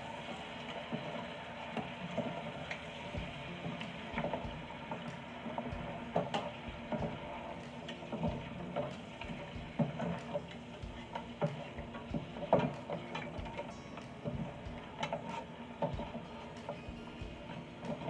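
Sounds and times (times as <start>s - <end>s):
low sizzle: 0.0s - 18.0s.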